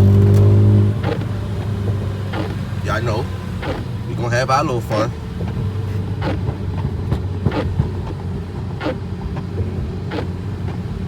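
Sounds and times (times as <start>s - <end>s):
car engine drone: 0.0s - 11.0s
road noise: 0.0s - 11.0s
windshield wipers swishing: 0.0s - 11.0s.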